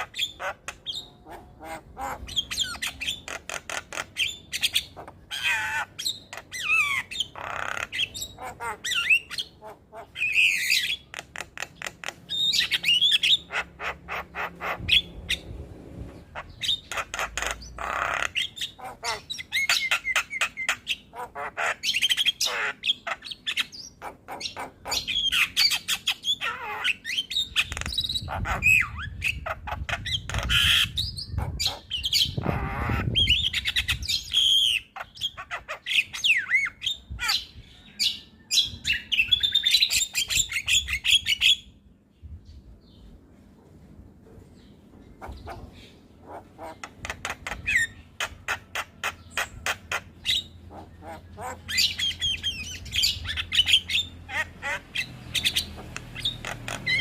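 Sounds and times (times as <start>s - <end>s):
bird chattering and whistling: 0.0s - 15.5s, 16.2s - 41.8s, 45.1s - 57.0s.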